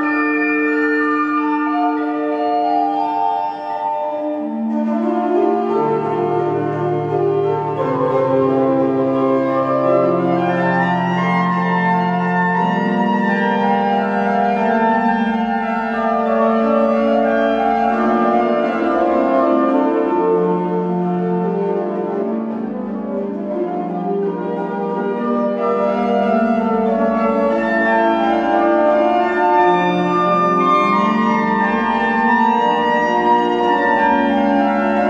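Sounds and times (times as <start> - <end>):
pipe organ playing sustained chords: 0.0 - 35.0.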